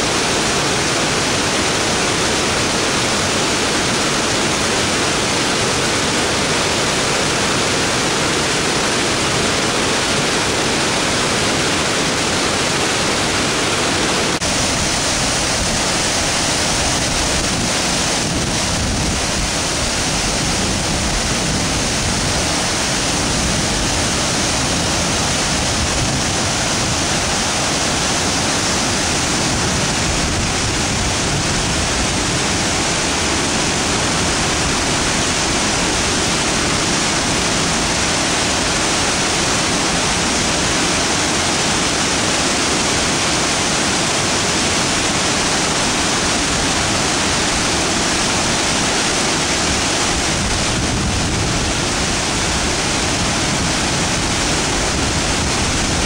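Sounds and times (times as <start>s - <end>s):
water gushing from dam: 0.0s - 56.0s.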